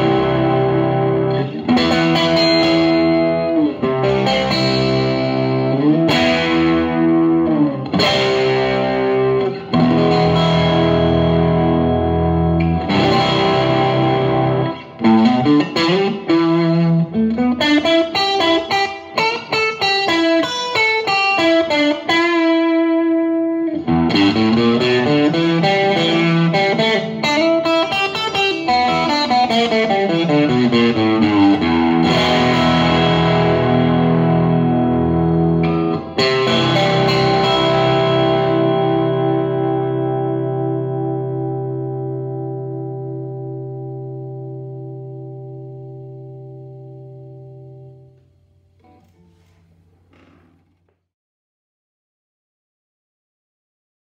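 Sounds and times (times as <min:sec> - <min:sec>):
electric guitar with driven tone: 0:00.0 - 0:50.9.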